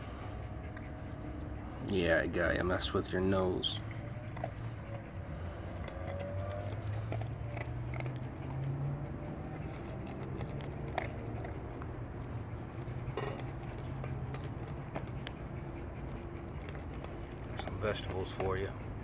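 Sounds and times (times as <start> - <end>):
steady low hum: 0.0 - 19.0
dog chewing dry kibble: 0.5 - 19.0.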